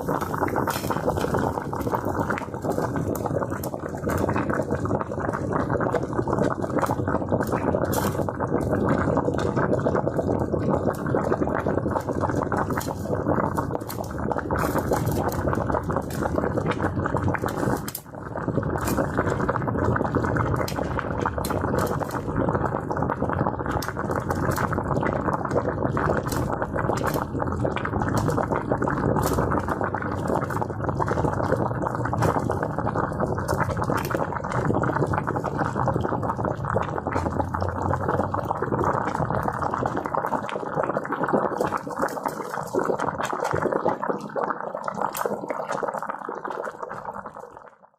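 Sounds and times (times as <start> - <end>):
water boiling hard: 0.0 - 47.9.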